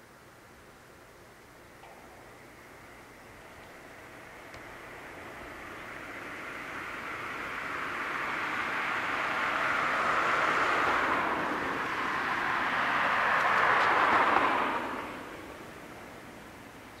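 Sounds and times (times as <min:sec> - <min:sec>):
car driving past: 0:02.3 - 0:16.2.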